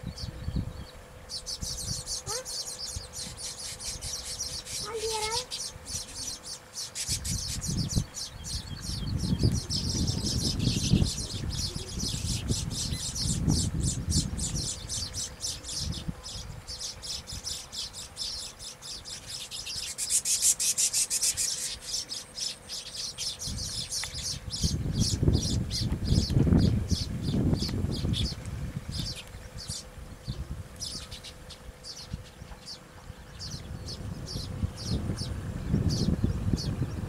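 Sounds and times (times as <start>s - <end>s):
birds chirping rapidly: 0.0s - 37.0s.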